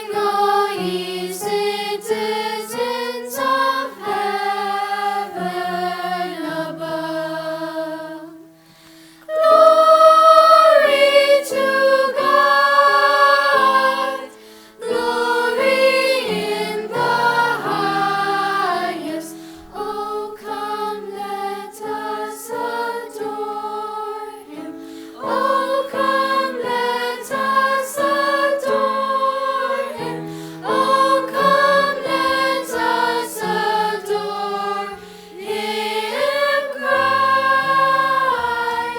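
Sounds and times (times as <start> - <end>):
choir singing: 0.0 - 8.6, 9.3 - 38.9.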